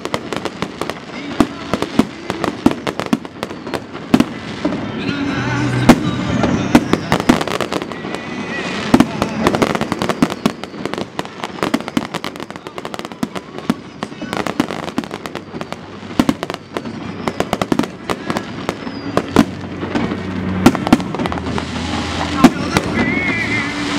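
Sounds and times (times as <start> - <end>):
fireworks bursting and crackling: 0.0 - 23.9
loud firework bangs: 0.0 - 23.9.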